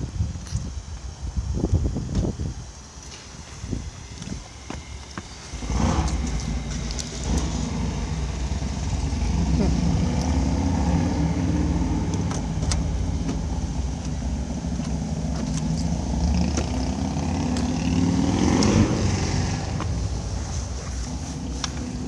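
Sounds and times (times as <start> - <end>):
car engine running: 3.4 - 22.0.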